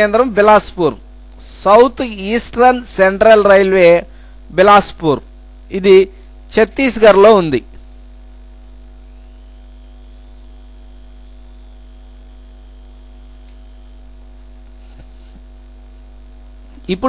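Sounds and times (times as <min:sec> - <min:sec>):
electrical mains hum: 0:00.0 - 0:17.0
faint rapid ticking: 0:00.0 - 0:17.0
steady tones: 0:00.0 - 0:17.0.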